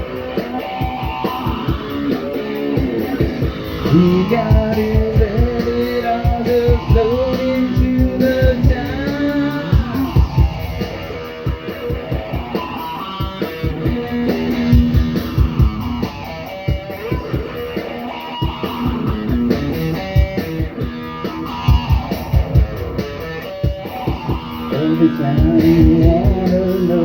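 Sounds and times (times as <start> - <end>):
rock guitar playing: 0.0 - 27.0
steady drum beat: 0.0 - 27.0.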